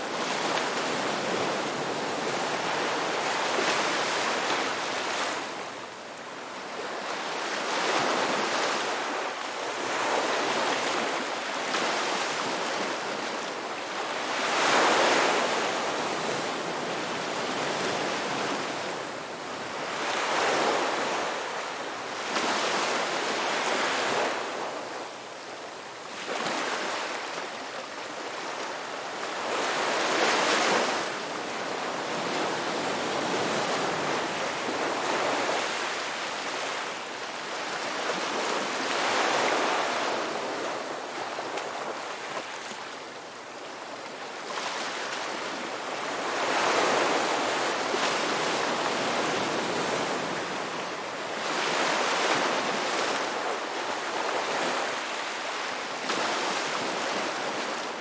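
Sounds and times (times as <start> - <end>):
sea waves breaking on shore: 0.0 - 25.2, 26.0 - 58.0.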